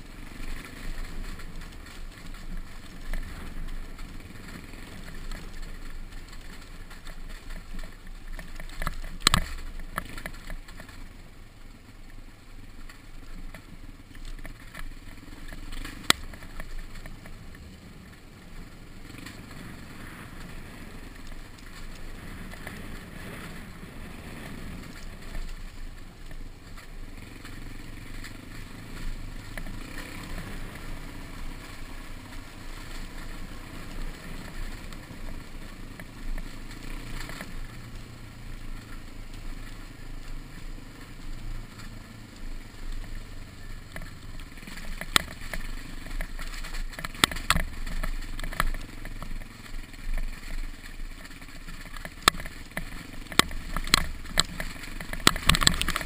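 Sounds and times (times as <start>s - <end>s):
knocks and rattles over stones: 0.2s - 11.2s, 12.6s - 18.3s, 18.9s - 56.0s.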